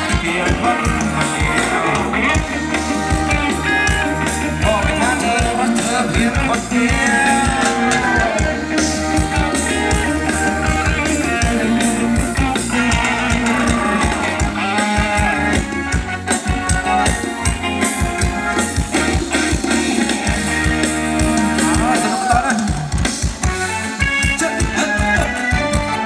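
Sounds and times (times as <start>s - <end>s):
drum kit beat: 0.0s - 26.0s
live band dance music: 0.0s - 26.0s.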